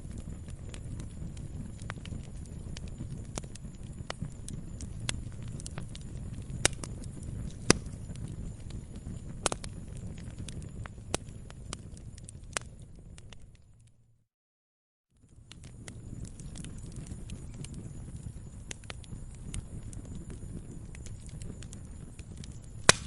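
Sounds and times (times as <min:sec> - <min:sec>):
log fire crackling and popping: 0:00.0 - 0:14.0, 0:15.2 - 0:23.0.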